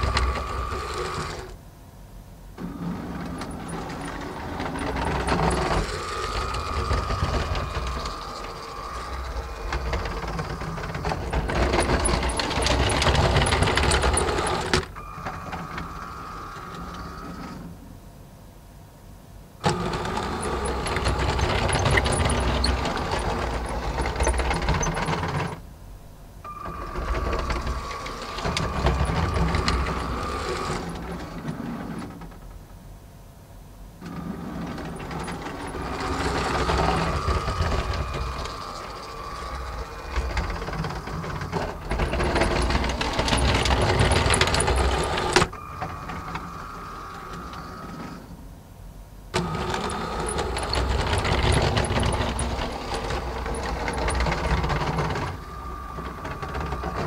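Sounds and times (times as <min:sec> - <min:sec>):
toy train motor whine: 0:00.0 - 0:01.6, 0:02.6 - 0:17.7, 0:19.6 - 0:25.6, 0:26.5 - 0:32.4, 0:34.0 - 0:48.4, 0:49.4 - 0:57.0
wheels rattling on plastic track: 0:00.0 - 0:01.6, 0:02.6 - 0:17.6, 0:19.6 - 0:25.6, 0:26.6 - 0:32.6, 0:34.0 - 0:48.3, 0:49.4 - 0:57.0.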